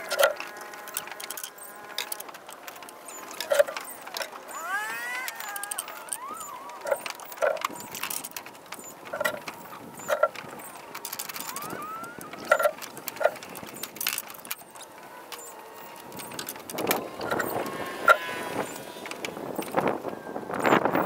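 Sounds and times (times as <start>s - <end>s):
faint birds calling: 0.0s - 21.0s.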